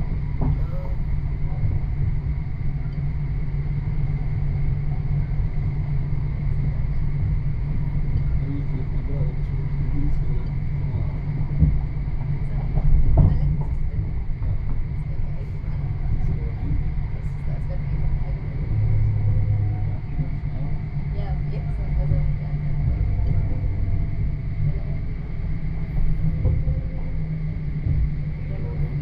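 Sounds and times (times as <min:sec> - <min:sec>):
faint high whine: 0:00.0 - 0:29.0
train wheels rumbling on track: 0:00.0 - 0:29.0.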